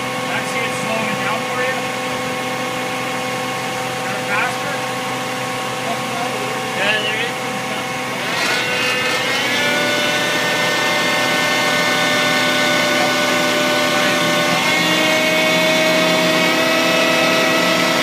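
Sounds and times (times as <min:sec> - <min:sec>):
truck engine running with whine: 0:00.0 - 0:18.0.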